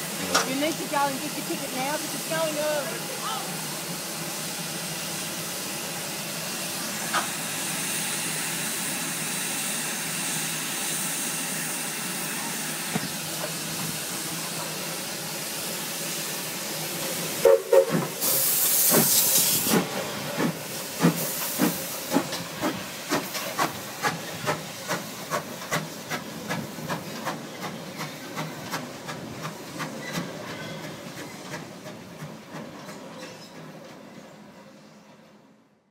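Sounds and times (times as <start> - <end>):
loud burst of steam: 0.0 - 29.1
steam locomotive hissing: 0.0 - 35.3.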